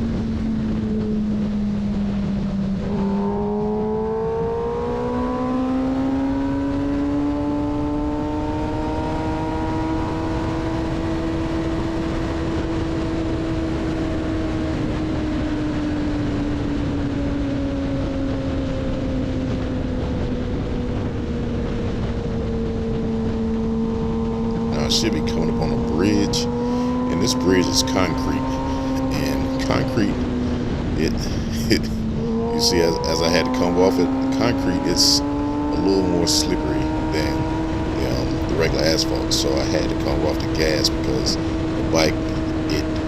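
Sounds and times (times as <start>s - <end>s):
motorcycle engine revving: 0.0s - 43.0s
wind and road noise: 0.0s - 43.0s.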